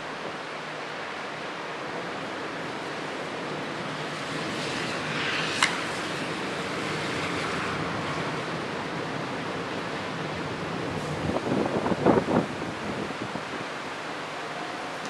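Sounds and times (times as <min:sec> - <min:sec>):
wind blowing through trees: 0:00.0 - 0:15.0.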